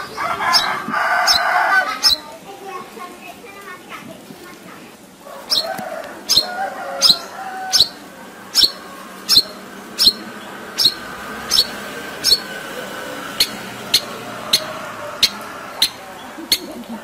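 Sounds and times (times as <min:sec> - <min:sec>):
bird giving sharp high calls: 0:00.0 - 0:02.4, 0:05.4 - 0:17.0.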